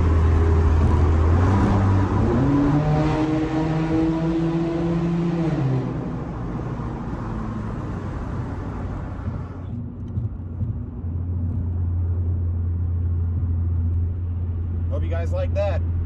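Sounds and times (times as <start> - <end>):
motor vehicle droning: 0.0 - 15.2.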